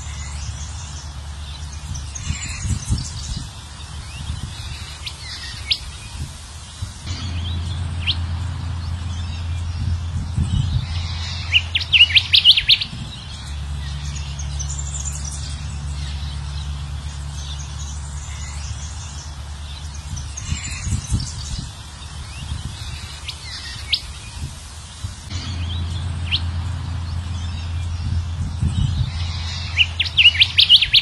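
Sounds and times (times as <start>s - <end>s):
bird song chirps and rising notes: 0.0s - 31.0s
high bird twittering: 0.0s - 31.0s
steady low hum: 0.0s - 31.0s.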